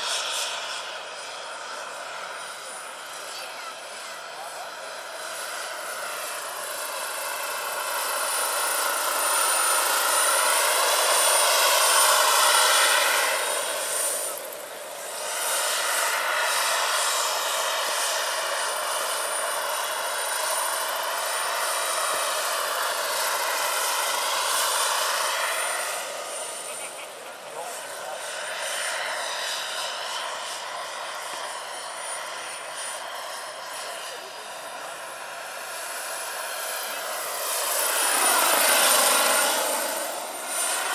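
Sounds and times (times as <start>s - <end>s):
gas turbine whine: 0.0s - 40.9s
helicopter rotors buzzing: 0.0s - 40.9s.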